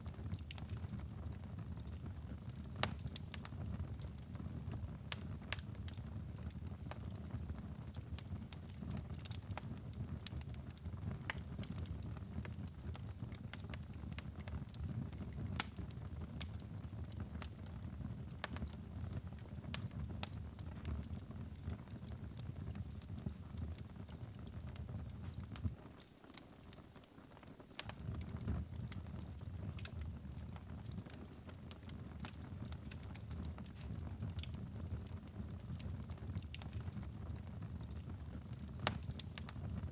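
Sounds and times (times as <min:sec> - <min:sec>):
low rumble of flames: 0:00.0 - 0:25.8, 0:27.7 - 0:39.9
fire crackling and popping: 0:00.0 - 0:39.9.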